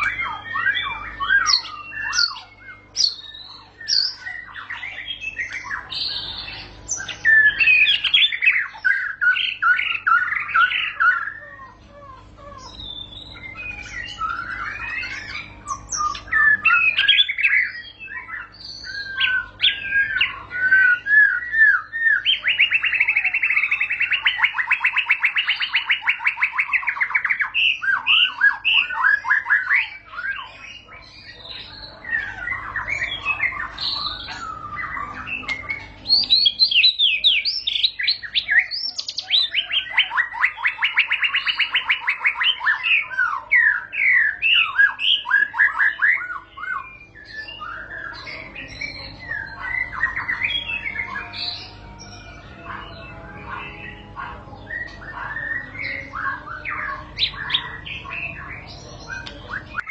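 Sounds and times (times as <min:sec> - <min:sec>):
bird fast trill: 0:00.0 - 0:59.9
bird singing whistles and chirps: 0:00.0 - 0:59.9.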